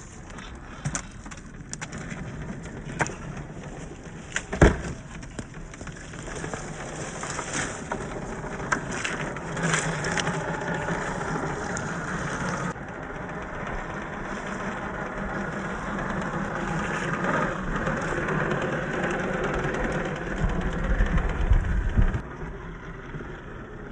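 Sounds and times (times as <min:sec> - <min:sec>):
electric motor and drivetrain whine: 0:00.0 - 0:23.9
tyres on rough terrain: 0:00.0 - 0:23.9.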